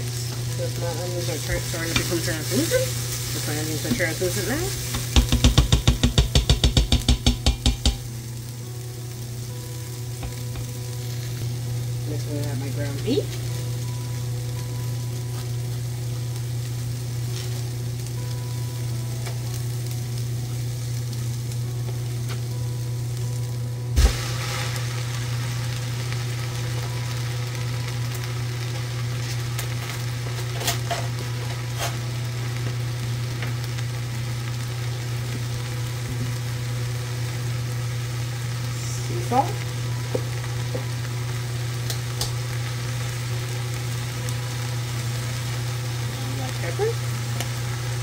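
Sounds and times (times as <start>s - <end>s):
onions sizzling in a pot: 0.0s - 48.0s.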